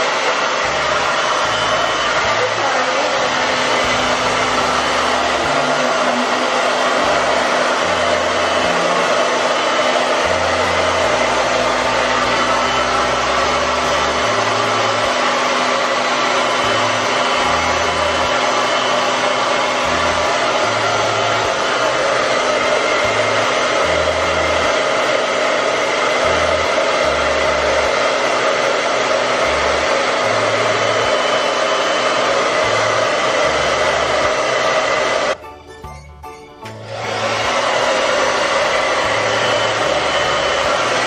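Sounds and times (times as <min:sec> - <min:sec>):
hair dryer running: 0:00.0 - 0:35.4, 0:36.6 - 0:41.0.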